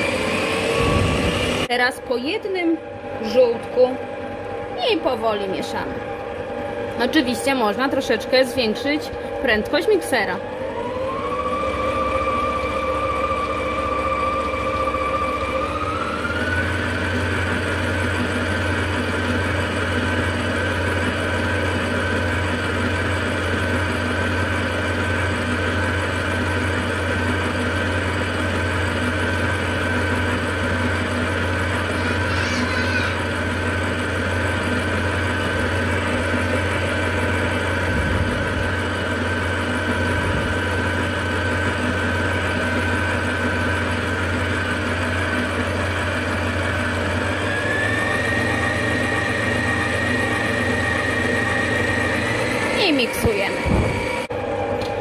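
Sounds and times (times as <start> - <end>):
stand mixer motor whine: 0.0 - 55.0.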